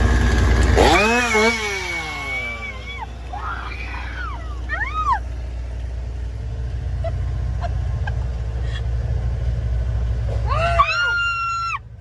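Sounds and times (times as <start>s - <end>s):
car rolling rumble from inside: 2.1s - 12.0s.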